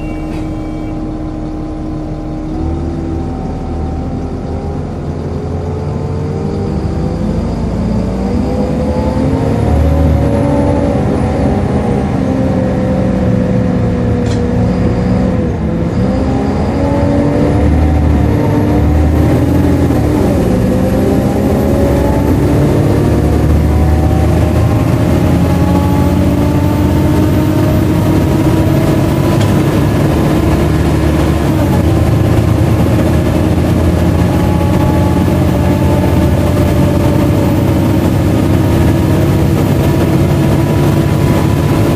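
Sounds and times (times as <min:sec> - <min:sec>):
bus diesel engine running: 0:00.0 - 0:41.9
loud cooling fan: 0:05.3 - 0:41.9.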